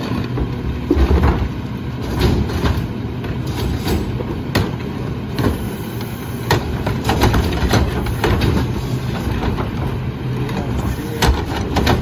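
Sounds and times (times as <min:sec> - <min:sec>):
cart and trash clanking: 0:00.0 - 0:12.0
garbage truck engine hum: 0:00.0 - 0:12.0.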